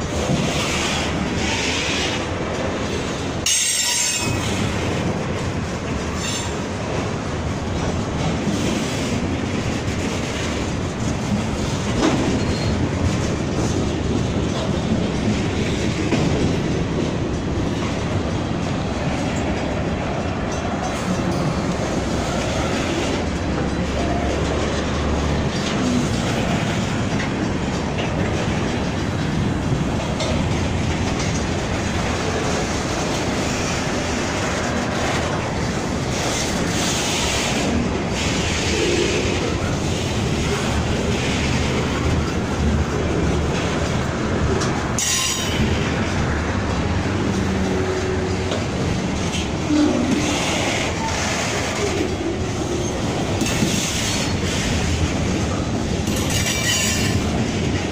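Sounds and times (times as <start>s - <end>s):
train wheels clattering over rail joints: 0.0s - 57.9s.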